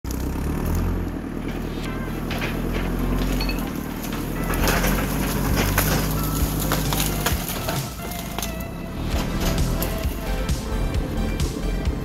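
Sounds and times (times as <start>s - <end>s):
diesel engine running: 0.0s - 12.0s
branches cracking and snapping: 0.1s - 10.3s.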